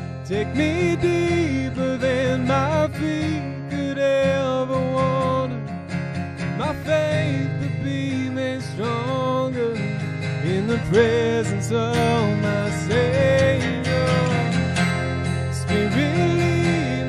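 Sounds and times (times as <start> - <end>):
electric bass guitar: 0.0 - 17.0
strummed acoustic guitar: 0.0 - 17.0
man singing: 0.2 - 5.7, 6.5 - 14.7, 15.4 - 17.0.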